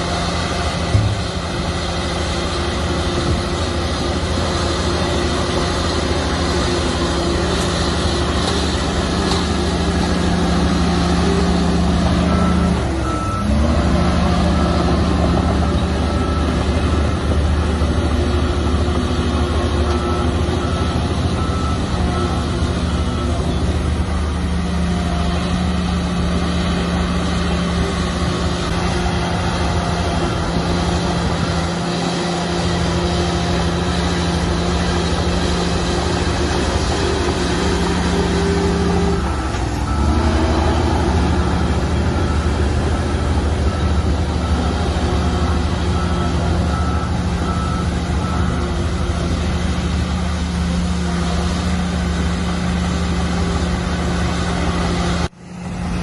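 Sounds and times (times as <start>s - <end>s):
heavy diesel machinery running: 0.0s - 56.0s
reversing alarm beeping: 0.2s - 55.3s.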